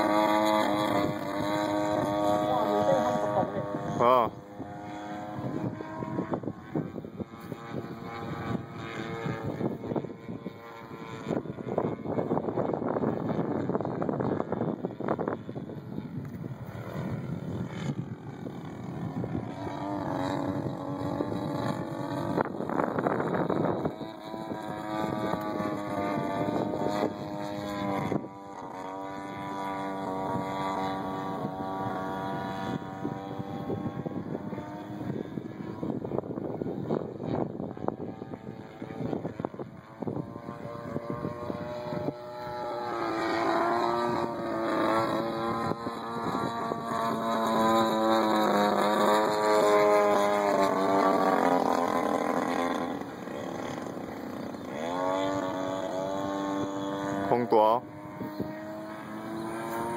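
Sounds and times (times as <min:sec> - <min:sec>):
model plane engine droning: 0:00.0 - 0:59.9
wind buffeting microphone: 0:00.0 - 0:59.9.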